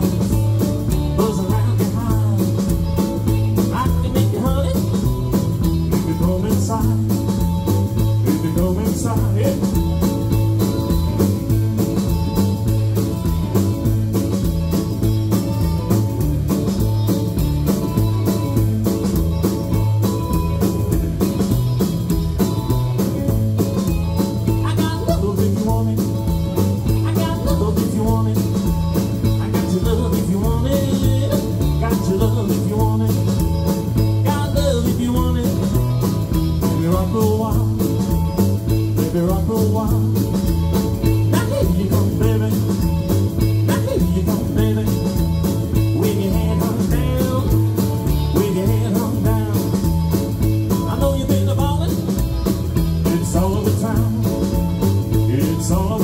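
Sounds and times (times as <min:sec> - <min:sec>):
guitar: 0:00.0 - 0:56.0
rockabilly band playing: 0:00.0 - 0:56.0.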